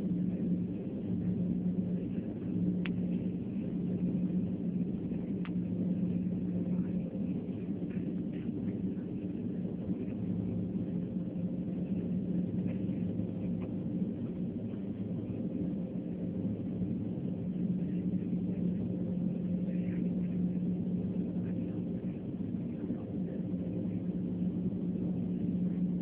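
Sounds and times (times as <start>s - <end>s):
jet cabin droning hum: 0.0s - 26.0s
low steady tones: 0.0s - 26.0s.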